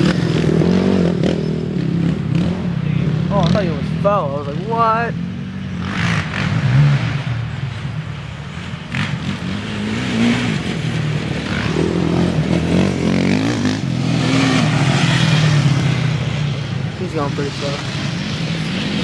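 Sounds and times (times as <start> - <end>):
quad engines racing past: 0.0 - 19.0.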